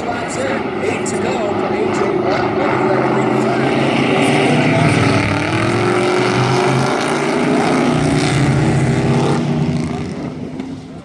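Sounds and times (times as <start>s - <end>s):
truck engines at full throttle: 0.0s - 11.0s.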